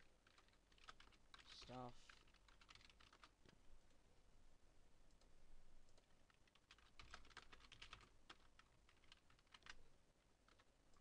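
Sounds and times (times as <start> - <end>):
keyboard typing: 0.0 - 3.6, 5.1 - 11.0.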